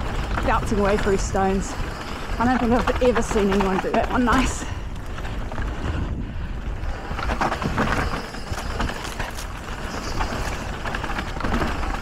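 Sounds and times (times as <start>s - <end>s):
bike chain and frame rattling: 0.0s - 12.0s
bike tyres rolling over dirt and stones: 0.0s - 12.0s
wind rumbling on microphone: 0.0s - 12.0s.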